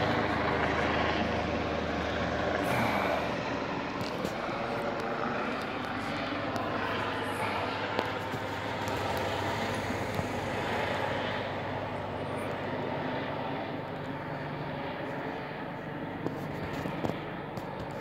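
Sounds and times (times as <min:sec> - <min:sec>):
helicopter rotor drone: 0:00.0 - 0:18.0.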